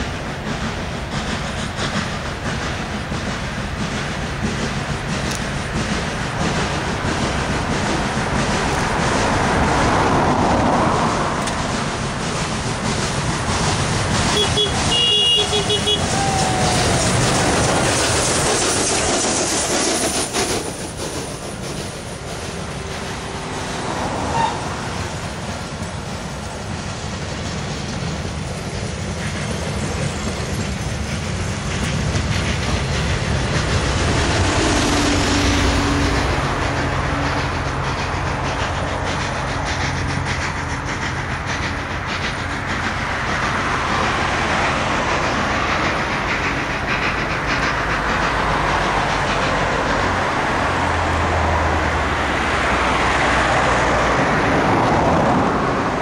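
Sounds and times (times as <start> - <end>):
train wheels clattering on rails: 0.0 - 56.0
road traffic driving by: 2.5 - 56.0.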